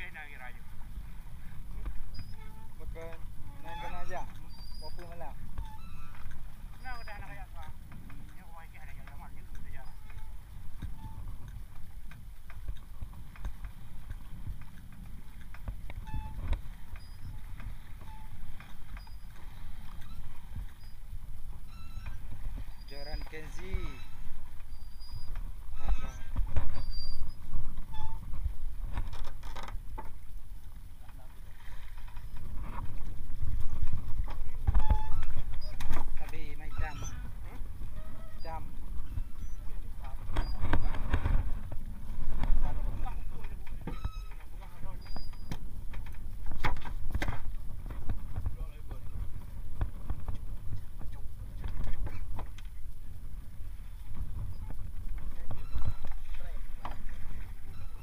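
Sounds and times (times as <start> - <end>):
constant low rumble: 0.0 - 58.0
sea noise: 0.0 - 58.0
wind: 0.0 - 58.0.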